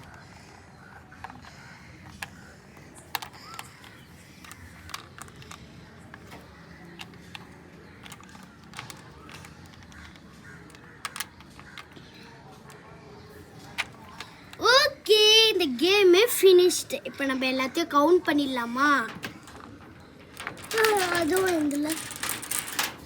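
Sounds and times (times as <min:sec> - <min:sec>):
game pieces clicking on board: 0:00.0 - 0:12.9, 0:13.6 - 0:14.6, 0:18.2 - 0:23.0.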